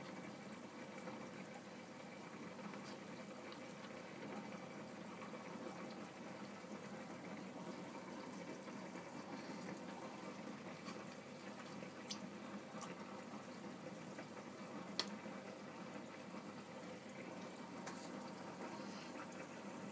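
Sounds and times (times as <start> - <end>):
aquarium water circulating: 0.0 - 19.9.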